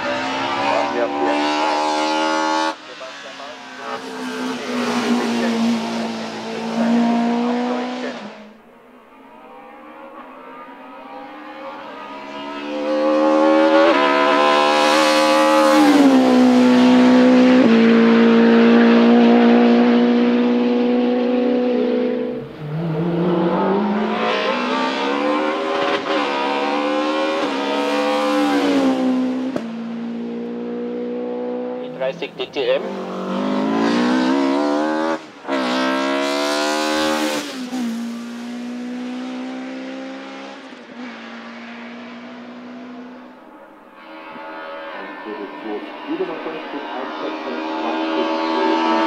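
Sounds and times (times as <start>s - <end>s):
race car engine at full throttle: 0.0s - 49.0s.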